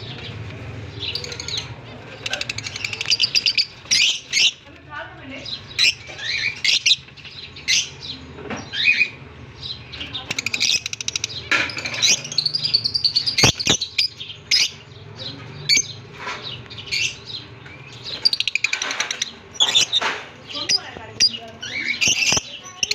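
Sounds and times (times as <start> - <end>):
budgerigars chattering: 0.9 - 22.9.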